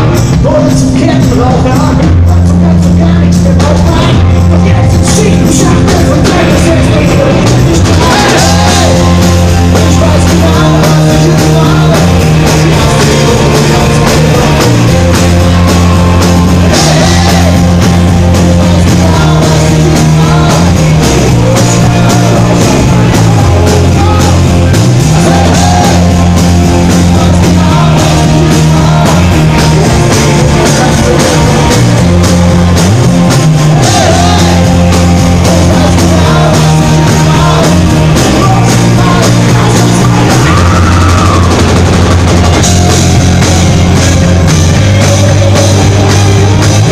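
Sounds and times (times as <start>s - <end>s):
person singing: 0.0s - 32.8s, 33.6s - 41.8s, 42.5s - 46.9s
live rock band playing: 0.0s - 46.9s.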